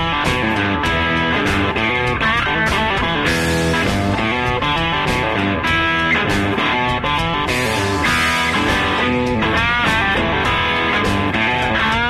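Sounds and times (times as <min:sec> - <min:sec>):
guitar bent notes: 0:00.0 - 0:12.0
guitar-led rock music: 0:00.0 - 0:12.0.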